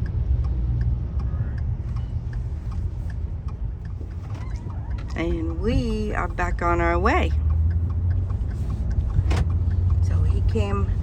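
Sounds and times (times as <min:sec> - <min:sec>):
turn signal clicking: 0:00.0 - 0:11.0.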